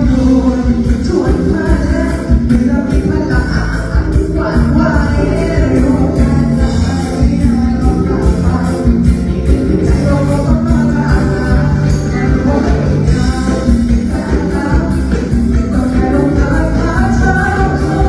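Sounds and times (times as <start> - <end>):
person singing: 0.0 - 18.0.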